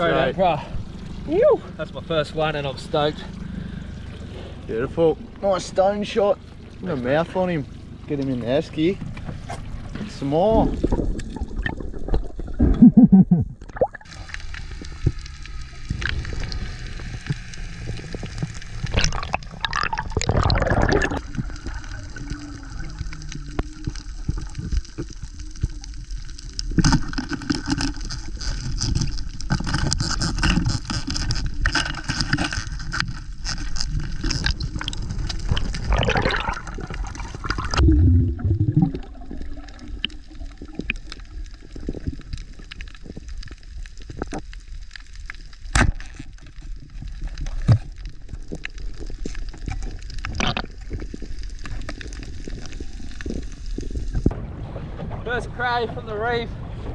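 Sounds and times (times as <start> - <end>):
water gurgling and sloshing: 0.0 - 56.9.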